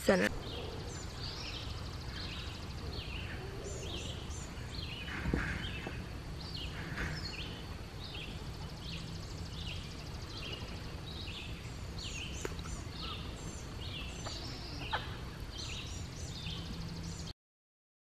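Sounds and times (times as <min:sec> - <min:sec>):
steady low rumble: 0:00.0 - 0:17.3
birds chirping and singing: 0:00.1 - 0:17.3.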